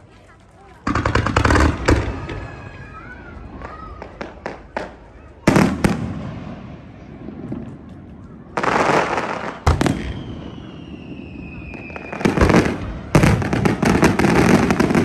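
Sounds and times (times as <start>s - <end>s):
fireworks crackling hiss: 0.8s - 15.0s
fireworks cracks and bangs: 0.8s - 15.0s.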